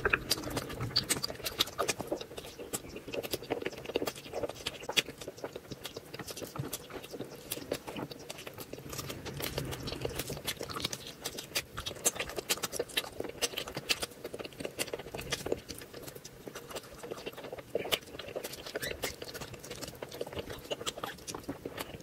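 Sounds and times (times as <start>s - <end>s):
chewing and mouth smacks: 0.0s - 22.0s.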